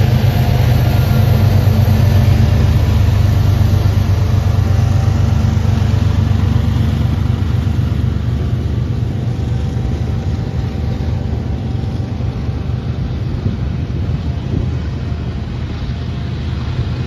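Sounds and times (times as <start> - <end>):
diesel locomotives running: 0.0 - 17.0.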